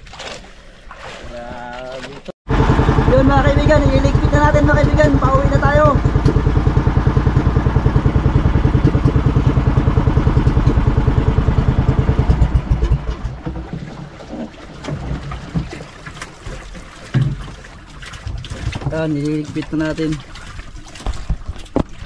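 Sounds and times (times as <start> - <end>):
water and handling sounds: 0.0 - 2.4, 4.1 - 22.0
boat engine throbbing: 2.5 - 20.4.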